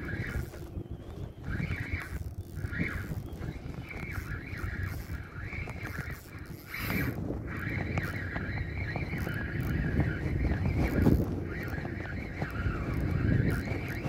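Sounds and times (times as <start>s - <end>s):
fishing reel whirring: 0.0s - 14.0s
wind buffeting microphone: 0.0s - 14.0s.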